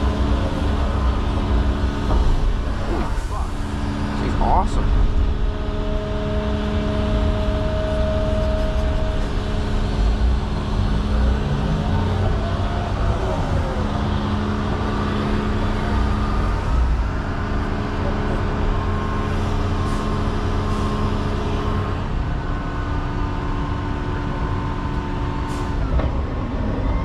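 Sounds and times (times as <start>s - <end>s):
machine whining tones: 0.0s - 22.0s
excavator diesel engine running: 0.0s - 27.0s.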